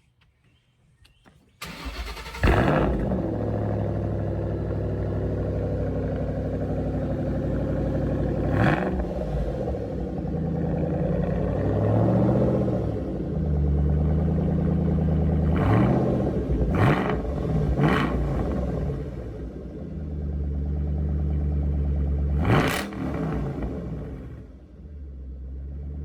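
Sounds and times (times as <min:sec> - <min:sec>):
car engine revving and idling: 0:01.6 - 0:26.0.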